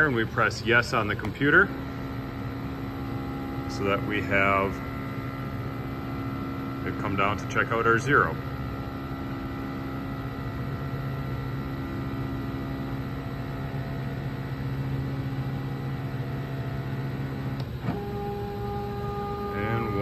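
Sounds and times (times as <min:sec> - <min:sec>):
stepper motor whining: 0:00.0 - 0:20.0.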